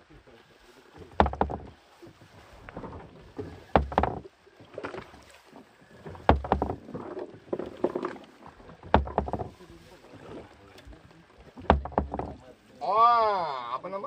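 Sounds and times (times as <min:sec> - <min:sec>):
water slapping against boat hull: 0:00.8 - 0:12.7.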